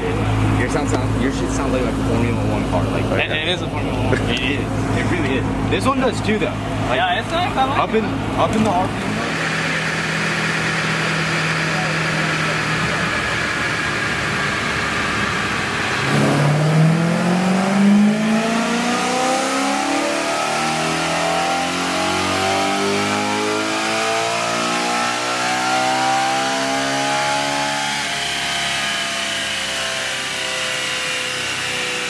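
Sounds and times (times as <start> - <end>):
car engine revving on dyno: 0.0 - 32.0.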